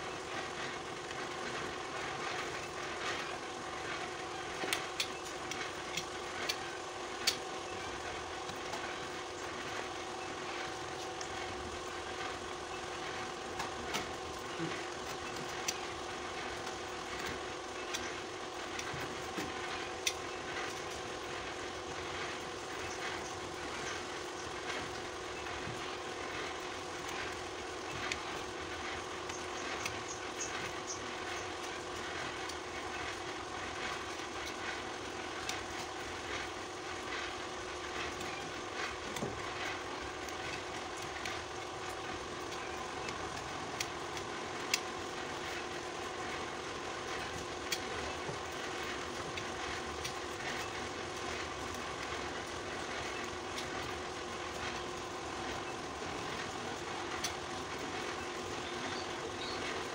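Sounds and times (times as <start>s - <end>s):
steady mechanical drone: 0.0s - 59.9s.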